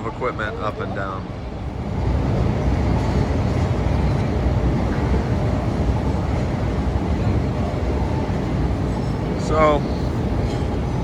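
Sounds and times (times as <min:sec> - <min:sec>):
street noise rumble: 0:00.0 - 0:11.0
heavy machinery: 0:01.8 - 0:11.0.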